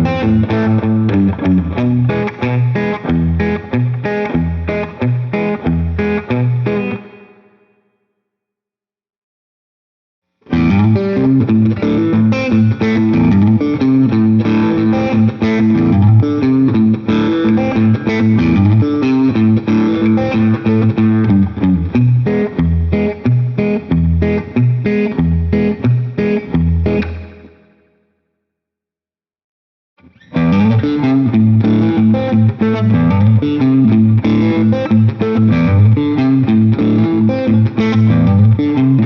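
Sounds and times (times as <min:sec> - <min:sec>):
electric guitar playing: 0:00.0 - 0:07.9, 0:10.4 - 0:27.9, 0:30.0 - 0:39.0.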